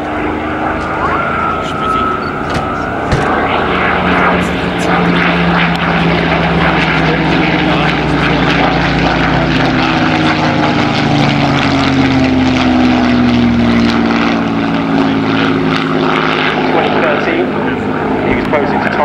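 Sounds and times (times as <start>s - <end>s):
propeller aircraft flying by: 0.0s - 19.0s.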